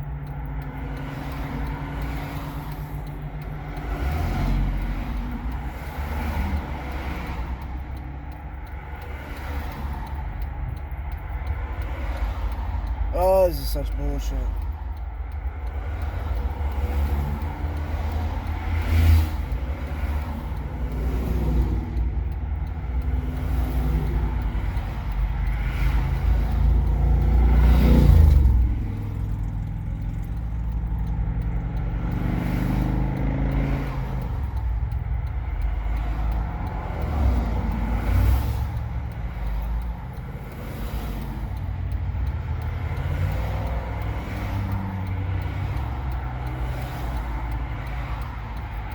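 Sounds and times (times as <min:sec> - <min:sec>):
steady low traffic rumble: 0:00.0 - 0:48.9
vehicles passing: 0:00.0 - 0:48.9.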